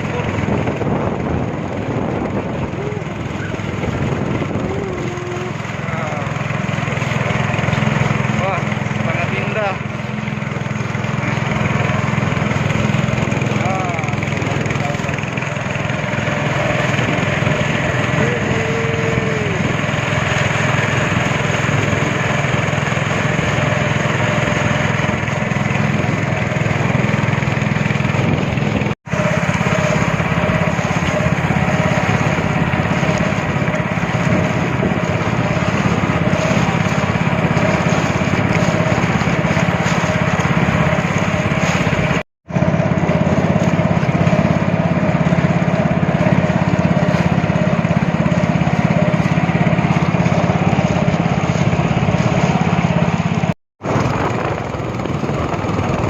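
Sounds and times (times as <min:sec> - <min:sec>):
speedboat engine running: 0:00.0 - 0:56.0
water and wind rushing: 0:00.0 - 0:56.0.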